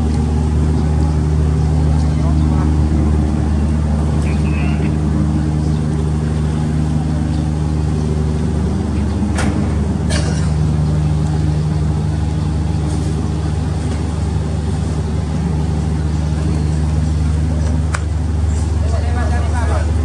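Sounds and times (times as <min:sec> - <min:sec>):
ship diesel engine drone: 0:00.0 - 0:20.0.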